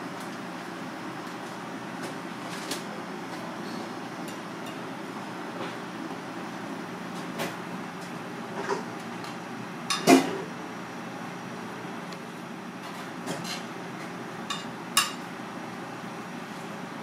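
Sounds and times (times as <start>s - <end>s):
kitchen background hum: 0.0s - 17.0s.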